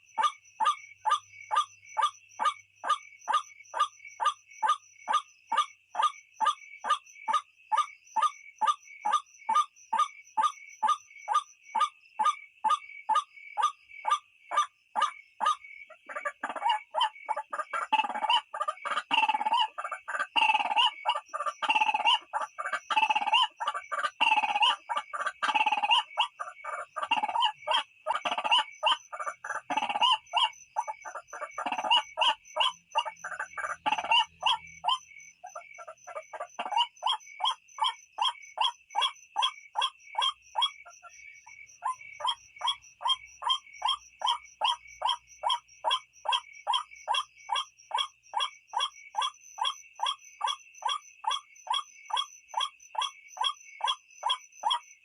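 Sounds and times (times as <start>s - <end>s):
waterhen calling repeated notes: 0.0s - 54.9s.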